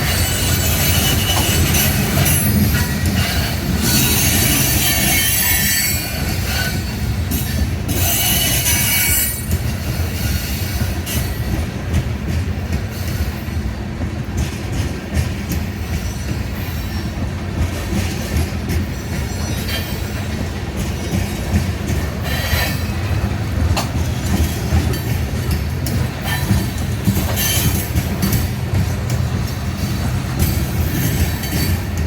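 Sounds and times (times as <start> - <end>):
train wheels squealing: 0.0 - 11.9, 12.8 - 13.8, 15.6 - 23.4, 24.1 - 32.0
low rumble of rolling train cars: 0.0 - 32.0
wheels clicking over rail joints: 0.0 - 32.0.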